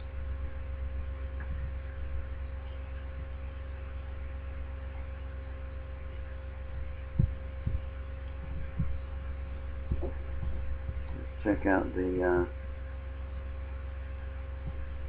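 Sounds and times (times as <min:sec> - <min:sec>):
soft low thumps: 0:00.0 - 0:11.7, 0:12.5 - 0:15.0
low electrical hum: 0:00.0 - 0:15.0.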